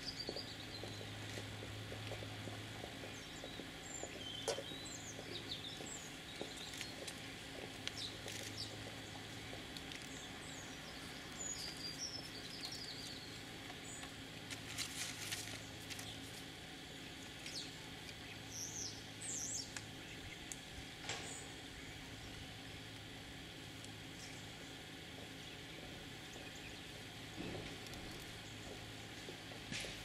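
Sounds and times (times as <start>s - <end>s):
small birds chirping: 0.0s - 29.2s
steady background hum: 0.0s - 30.0s.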